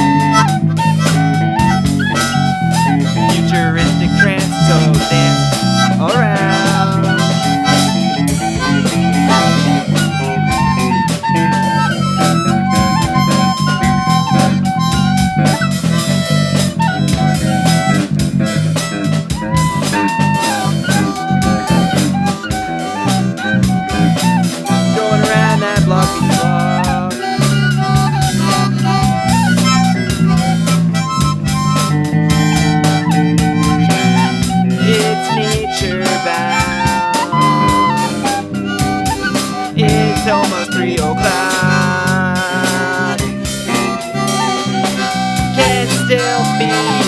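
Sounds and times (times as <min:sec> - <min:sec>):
bass: 0:00.0 - 0:47.0
guitar: 0:00.0 - 0:47.0
harmonica melody: 0:00.0 - 0:47.0
steady drum beat: 0:00.0 - 0:47.0.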